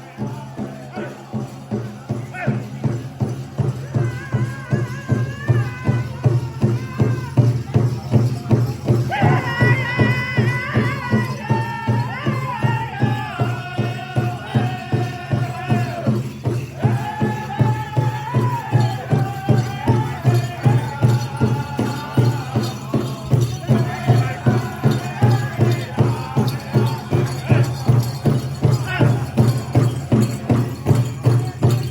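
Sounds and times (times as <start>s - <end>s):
group of voices singing: 0.0s - 7.4s, 9.1s - 31.9s
big drum beat: 0.0s - 31.9s.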